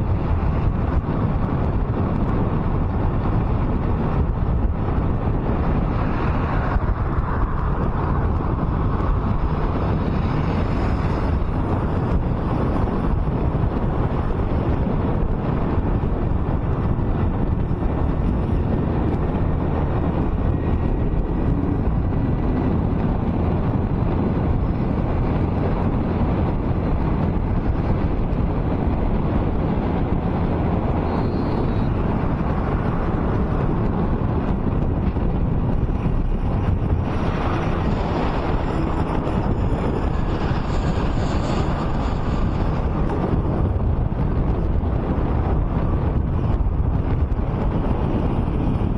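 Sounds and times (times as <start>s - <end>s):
car road noise rumble: 0.0s - 48.9s
wind buffeting microphone: 0.0s - 48.9s.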